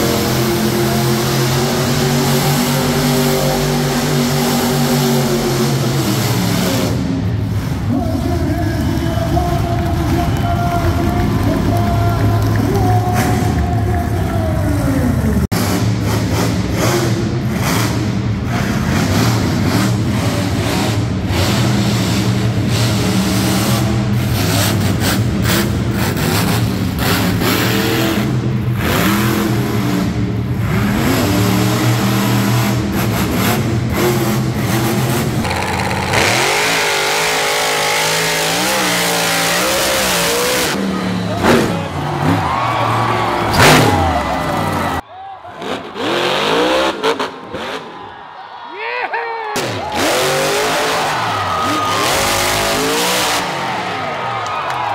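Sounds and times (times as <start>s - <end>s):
truck engine revving: 0.0s - 45.0s, 45.6s - 48.0s, 49.6s - 54.9s.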